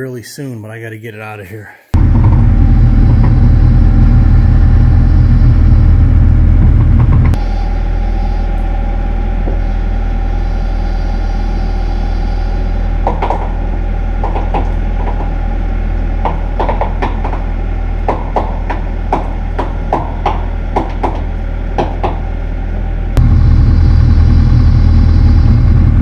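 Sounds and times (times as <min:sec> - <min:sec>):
diesel engine running: 0:02.0 - 0:26.0.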